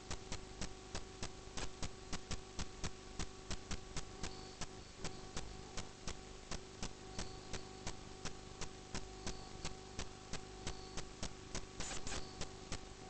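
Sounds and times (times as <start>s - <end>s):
electrical hum: 0.0s - 13.0s
sharp ticking clicks: 0.1s - 12.9s.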